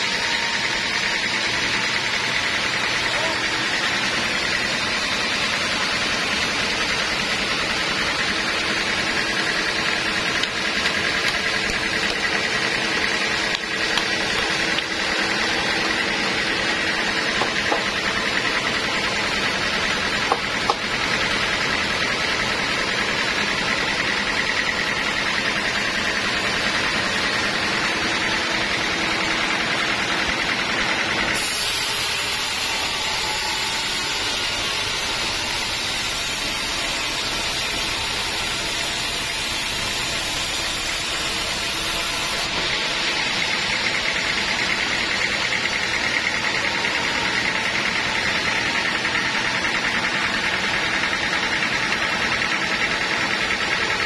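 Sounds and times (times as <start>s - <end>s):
sawmill machinery with high whine: 0.0s - 54.0s.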